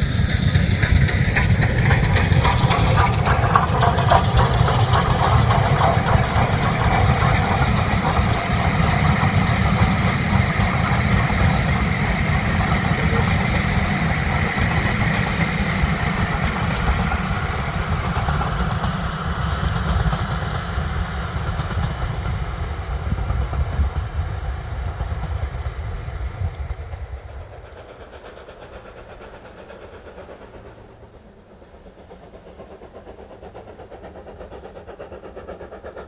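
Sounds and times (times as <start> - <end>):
steam train rumbling past: 0.0 - 36.0.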